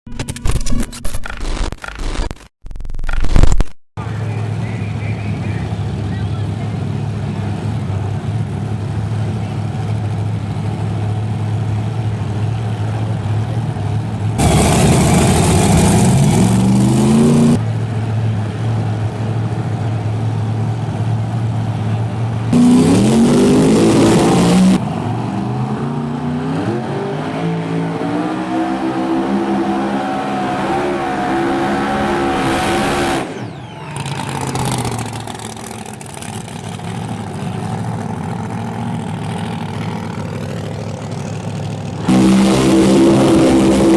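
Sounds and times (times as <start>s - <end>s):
drag racing engines revving: 4.0s - 43.9s.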